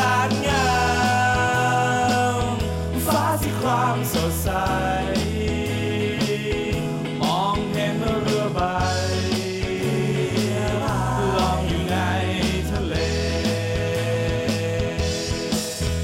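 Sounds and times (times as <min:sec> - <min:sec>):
pop song with singing: 0:00.0 - 0:16.0.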